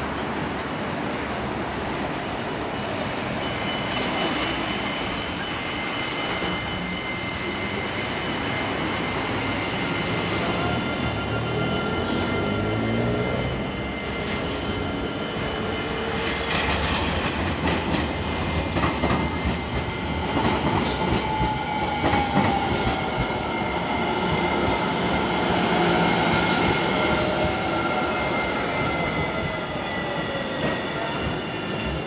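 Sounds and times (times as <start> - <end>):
tram rolling on rails: 0.0 - 32.0
tram whine: 0.0 - 32.0.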